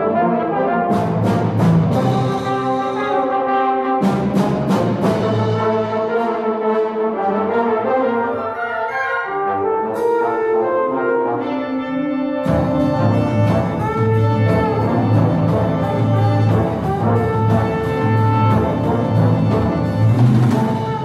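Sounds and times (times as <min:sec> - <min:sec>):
solo trombone: 0:00.0 - 0:21.0
wind orchestra chords: 0:00.0 - 0:21.0.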